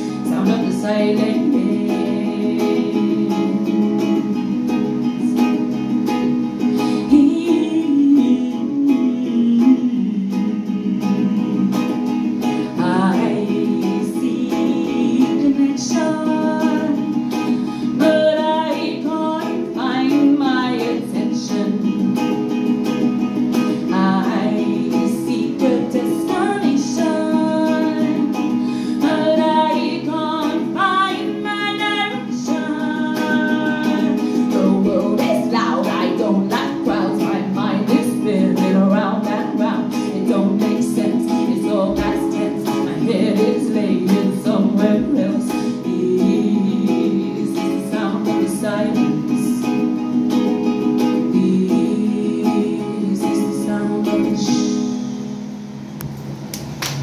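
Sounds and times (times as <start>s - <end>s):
woman singing: 0.0s - 55.2s
ukulele strumming: 0.0s - 57.0s.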